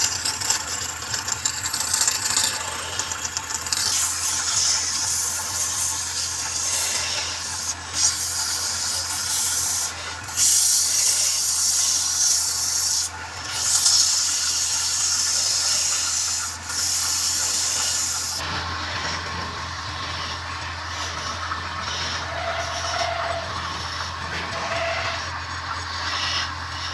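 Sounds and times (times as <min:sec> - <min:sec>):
sandpaper hissing on spinning wood: 0:00.0 - 0:18.4, 0:21.0 - 0:25.4, 0:26.0 - 0:26.9
lathe motor hum: 0:00.0 - 0:26.9.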